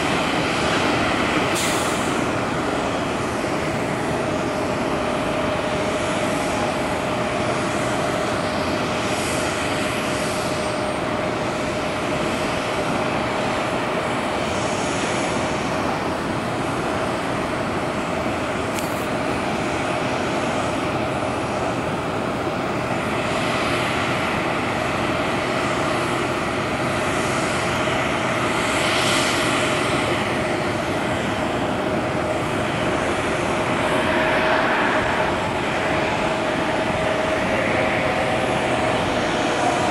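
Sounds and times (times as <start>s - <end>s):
jet aircraft rush and whine: 0.0s - 39.9s.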